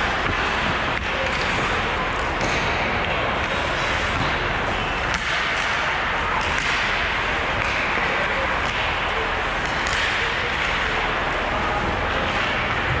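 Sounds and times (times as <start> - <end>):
arena noise: 0.0 - 13.0
hockey sticks and puck clacking: 0.0 - 13.0.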